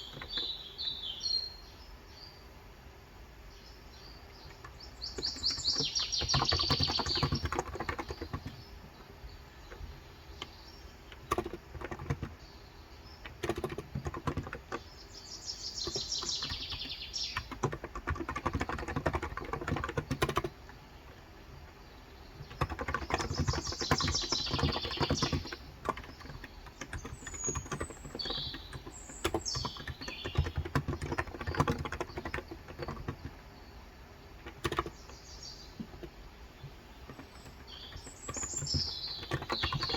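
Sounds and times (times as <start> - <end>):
soft keyboard typing: 0.0 - 1.0, 4.4 - 9.0, 9.6 - 12.5, 13.2 - 15.0, 15.6 - 21.6, 22.4 - 33.5, 34.3 - 39.9
birds chirping: 0.0 - 39.9.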